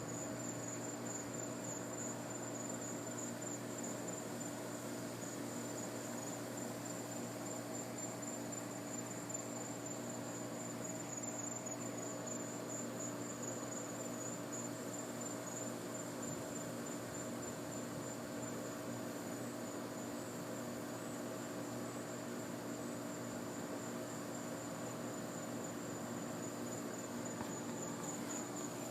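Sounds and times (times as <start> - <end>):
night insects chirring: 0.0 - 28.9.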